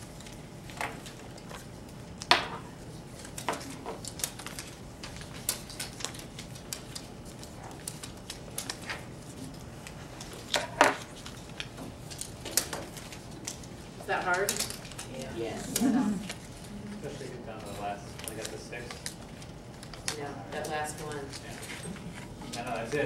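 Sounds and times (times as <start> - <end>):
cards rustling: 3.0 - 23.0.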